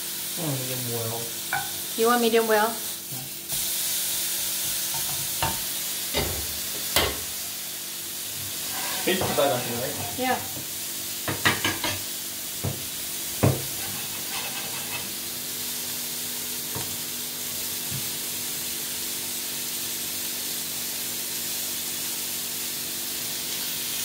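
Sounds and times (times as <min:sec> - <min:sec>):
steak sizzling in frying pan: 0:00.0 - 0:24.0.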